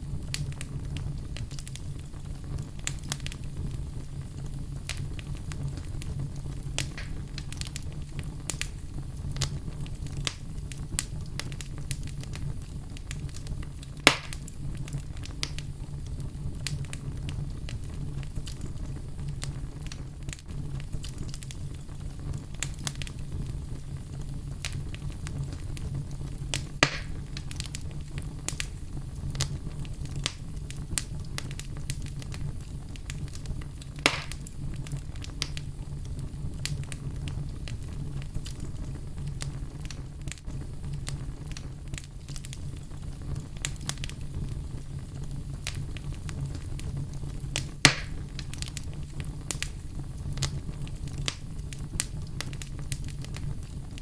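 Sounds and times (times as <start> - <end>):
fire crackles: 0.0 - 54.0
loud fire pops: 0.0 - 54.0
low rumble of flames: 0.0 - 54.0.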